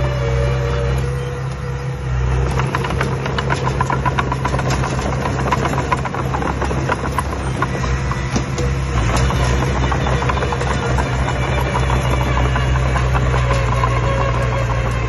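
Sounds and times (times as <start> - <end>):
construction machine engine running: 0.0 - 15.0
clatter of knocks and rattles: 2.2 - 15.0.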